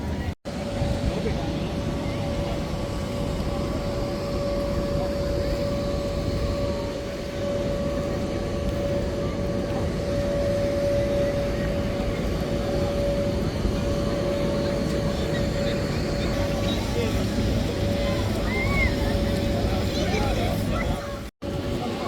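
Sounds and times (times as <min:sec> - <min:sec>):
machine running with whine and rumble: 0:00.0 - 0:22.0.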